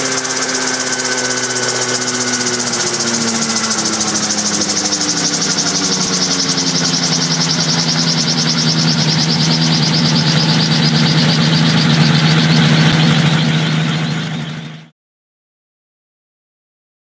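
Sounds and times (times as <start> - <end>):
helicopter engine and rotors: 0.0 - 14.9.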